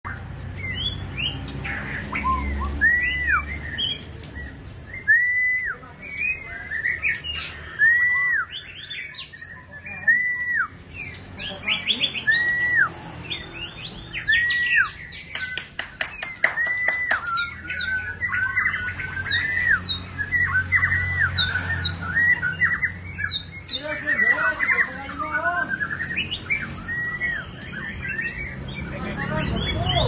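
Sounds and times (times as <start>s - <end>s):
songbird whistling and chirping: 0.1s - 30.0s.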